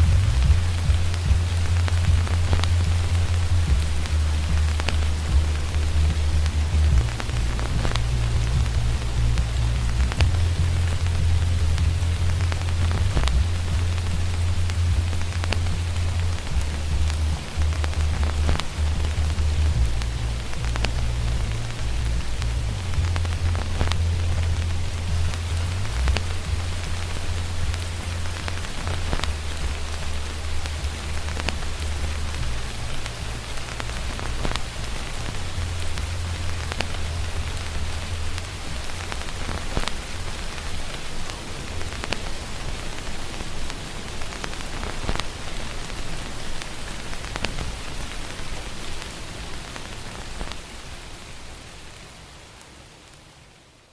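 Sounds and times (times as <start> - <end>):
muffled bass music: 0.0 - 44.2
sharp clicks: 0.0 - 50.8
steady rain: 0.0 - 53.9
vinyl record crackle: 0.0 - 53.9.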